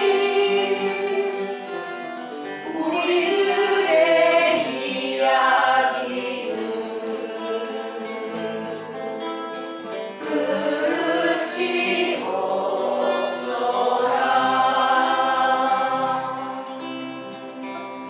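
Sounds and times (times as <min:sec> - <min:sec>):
person singing: 0:00.0 - 0:17.3
acoustic guitar: 0:00.0 - 0:18.0.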